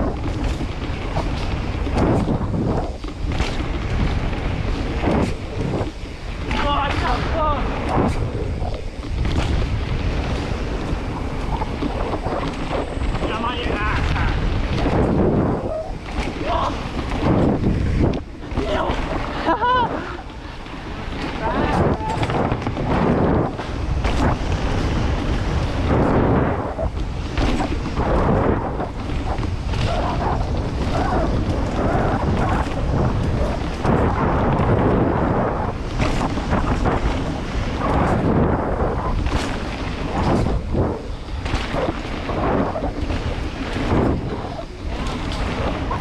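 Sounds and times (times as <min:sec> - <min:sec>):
bike knocks and rattles: 0:00.0 - 0:46.0
bike rumbling on dirt trail: 0:00.0 - 0:46.0
wind buffeting microphone: 0:00.0 - 0:46.0.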